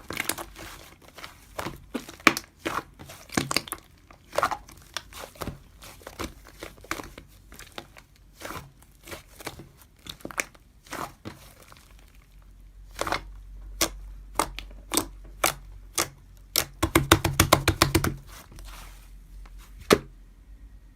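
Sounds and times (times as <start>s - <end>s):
slime squished by hand: 0.0s - 20.2s.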